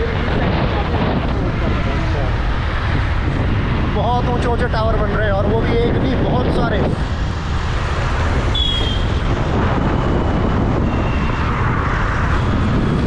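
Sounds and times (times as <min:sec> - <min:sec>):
traffic engines and tyres rumbling: 0:00.0 - 0:13.0.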